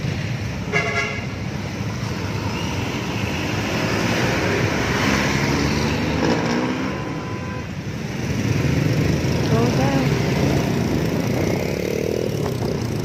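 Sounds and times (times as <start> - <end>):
vehicle engines running: 1.3 - 13.0.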